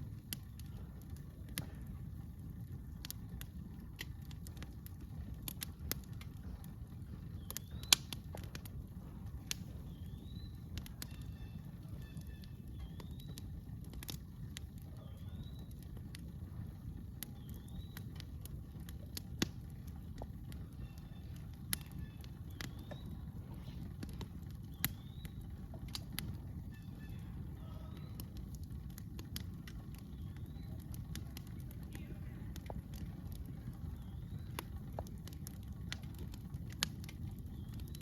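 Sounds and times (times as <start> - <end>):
campfire crackling: 0.0 - 38.0.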